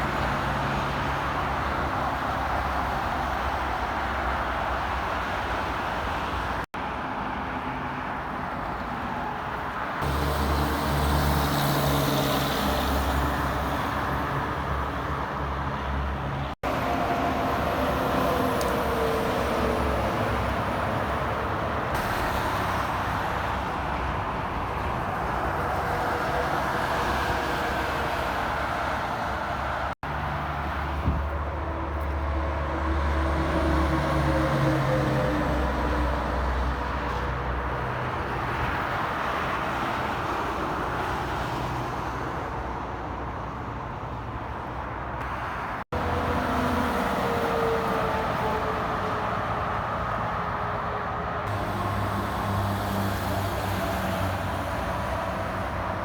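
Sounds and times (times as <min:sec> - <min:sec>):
heavy trucks passing: 0:00.0 - 0:56.0
tyres rolling on road: 0:00.0 - 0:56.0.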